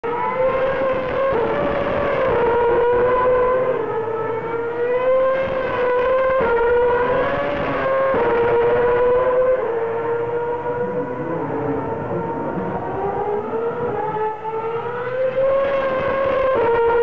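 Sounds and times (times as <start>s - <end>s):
racing car engines accelerating: 0.0s - 17.0s.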